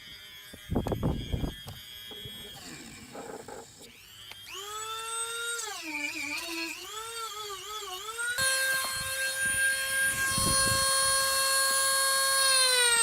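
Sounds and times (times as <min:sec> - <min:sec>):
rotary cutting tool whining: 0:00.0 - 0:13.0.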